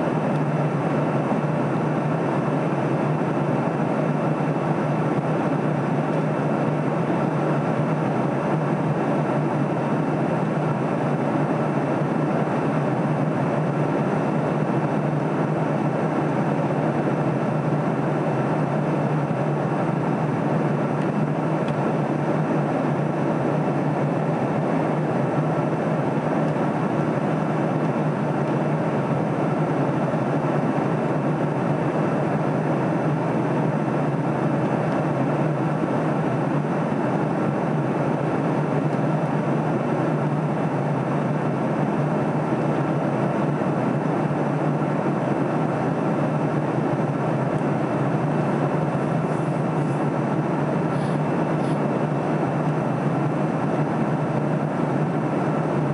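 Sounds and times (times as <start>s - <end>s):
jet airliner cabin noise: 0.0s - 55.9s.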